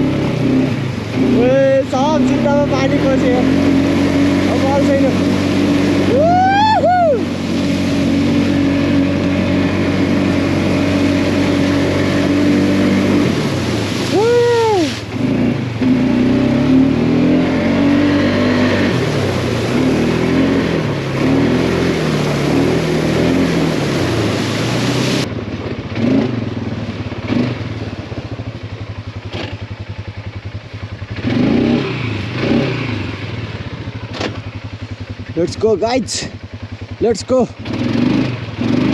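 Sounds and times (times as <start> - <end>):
quad bike engine revving: 0.0 - 28.4, 29.0 - 38.9.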